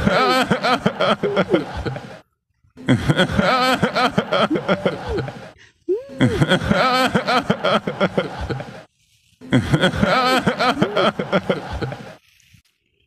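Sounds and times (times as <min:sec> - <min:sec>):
man chuckling: 0:00.0 - 0:02.2, 0:02.9 - 0:08.8, 0:09.5 - 0:12.2.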